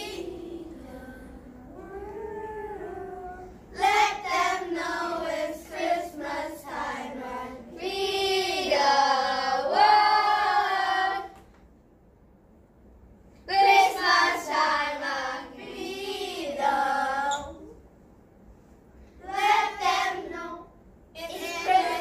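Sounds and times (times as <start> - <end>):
children singing: 0.0 - 11.4, 13.5 - 17.8, 19.2 - 22.0.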